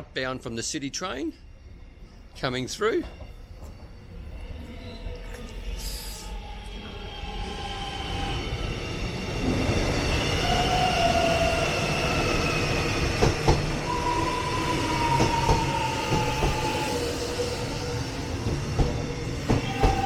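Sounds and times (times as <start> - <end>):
electric train passing: 0.0 - 20.0
train whining and squealing: 0.6 - 20.0.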